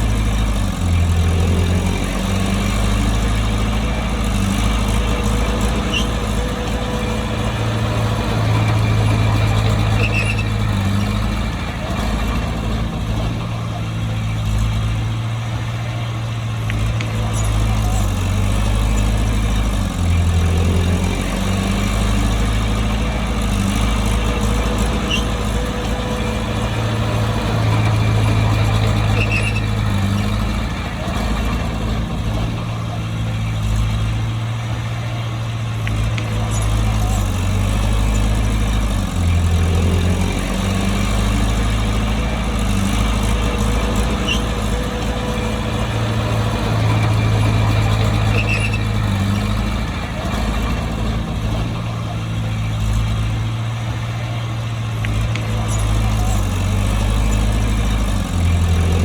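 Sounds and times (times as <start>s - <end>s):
bulldozer diesel engine drone: 0.0s - 59.0s.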